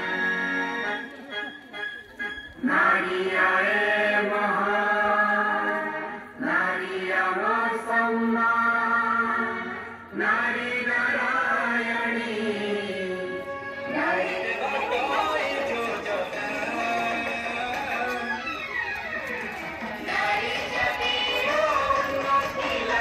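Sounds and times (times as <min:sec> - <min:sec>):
person singing chant-like song: 0:02.6 - 0:18.5, 0:19.8 - 0:23.0.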